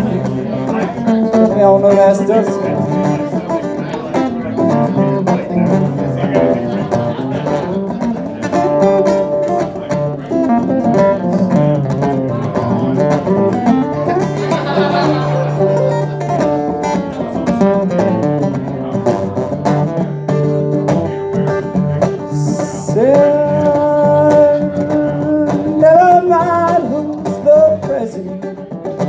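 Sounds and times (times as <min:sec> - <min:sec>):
country blues guitar playing: 0:00.0 - 0:29.0.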